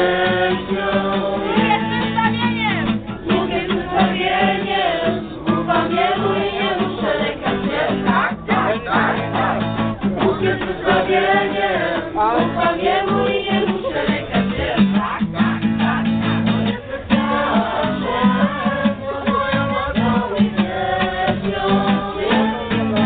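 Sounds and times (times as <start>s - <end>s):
acoustic guitar: 0.0s - 23.0s
young voices singing together: 0.0s - 23.0s.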